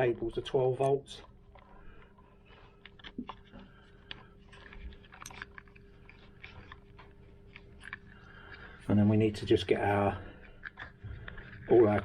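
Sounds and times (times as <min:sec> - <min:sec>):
faint steady hum: 0:00.0 - 0:12.0
wiring clicks and rustles: 0:00.0 - 0:12.0.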